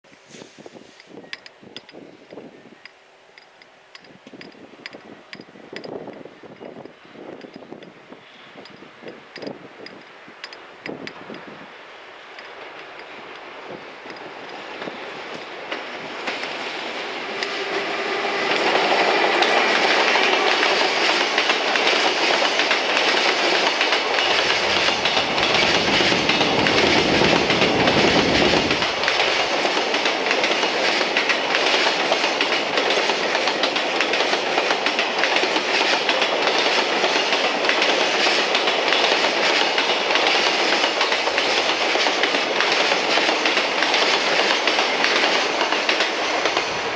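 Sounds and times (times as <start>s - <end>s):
electric locomotive rumbling past: 5.2s - 46.9s.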